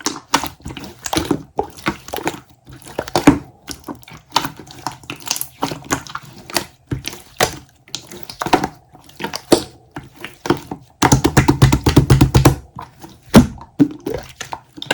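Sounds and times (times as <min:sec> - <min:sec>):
slime squelching and popping: 0:00.0 - 0:14.9.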